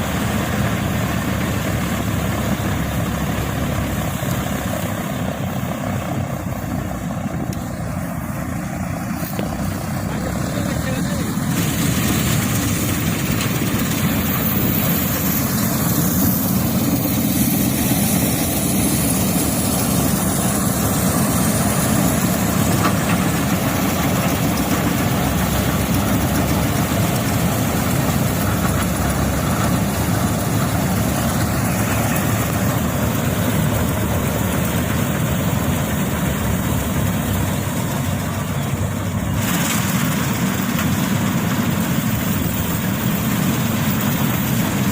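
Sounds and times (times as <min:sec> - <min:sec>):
harvesting machine running: 0:00.0 - 0:44.9.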